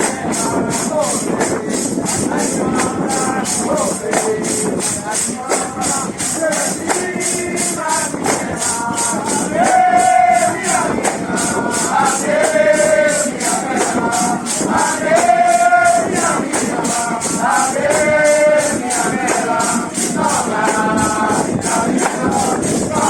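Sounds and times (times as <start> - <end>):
jingling percussion beat: 0.0 - 23.0.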